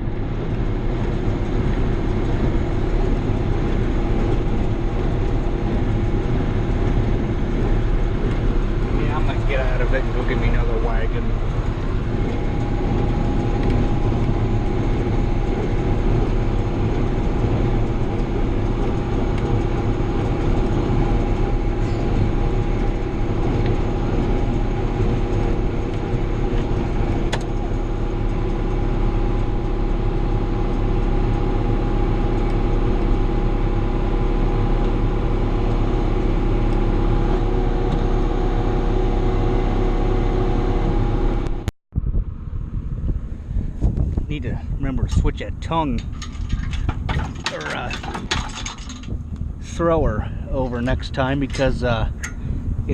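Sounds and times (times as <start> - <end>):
tractor and baler drone: 0.0 - 52.9.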